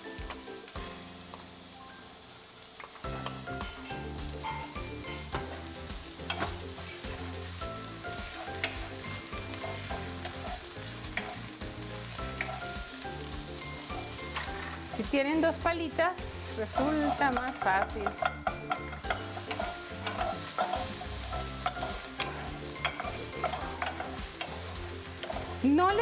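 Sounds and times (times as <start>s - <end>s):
instrumental background music: 0.0s - 26.0s
onion sizzling in a frying pan: 0.0s - 26.0s
wooden spatula scraping a pan: 3.2s - 12.8s, 13.9s - 15.6s, 16.3s - 25.9s.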